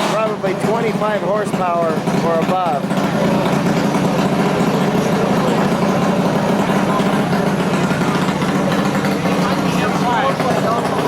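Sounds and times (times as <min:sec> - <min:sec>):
mini bike engine on dyno: 0:00.0 - 0:11.0.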